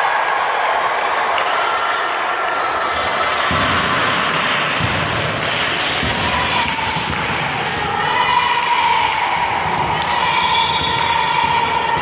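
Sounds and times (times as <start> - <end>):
crowd voices echoing: 0.0 - 12.0.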